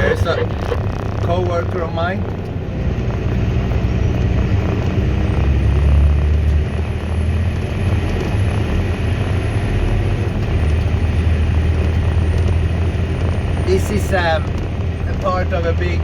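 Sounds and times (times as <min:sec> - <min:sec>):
diesel engine droning in cab: 0:00.0 - 0:16.0.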